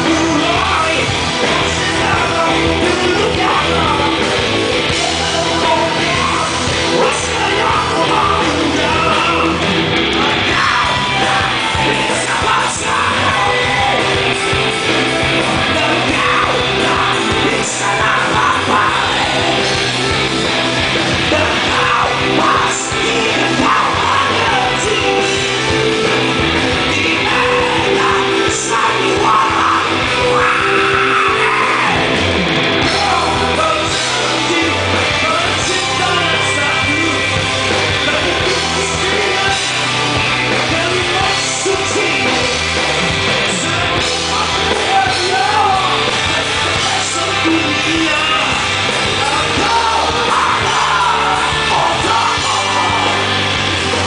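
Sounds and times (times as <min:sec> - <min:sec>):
bass guitar: 0:00.0 - 0:54.0
drums: 0:00.0 - 0:54.0
electric guitar: 0:00.0 - 0:54.0
person singing: 0:00.0 - 0:54.0.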